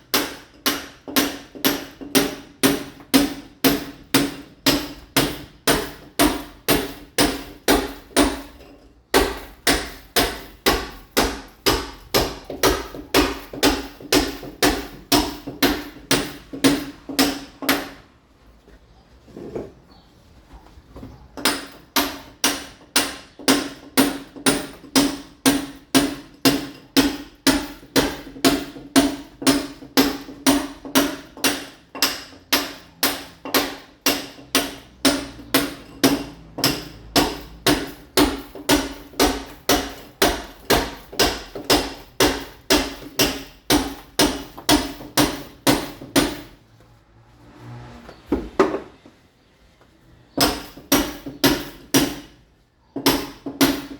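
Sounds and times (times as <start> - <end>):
hammer striking masonry wall: 0.0 - 18.2, 21.4 - 46.6, 50.3 - 53.9.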